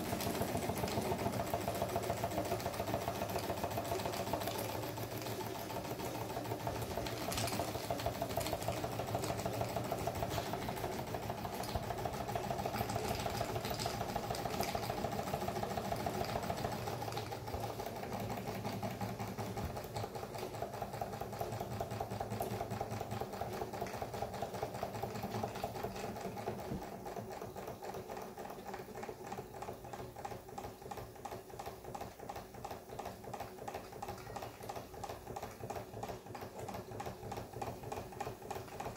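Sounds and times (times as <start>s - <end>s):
toy steam engine running: 0.0s - 38.9s.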